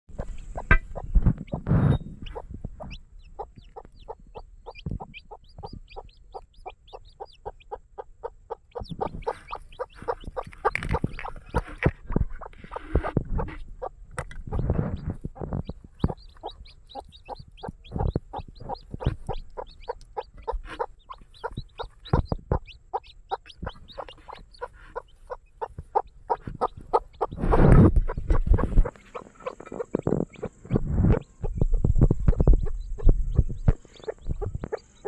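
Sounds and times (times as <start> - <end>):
chickens clucking and calling: 0.1 - 35.0.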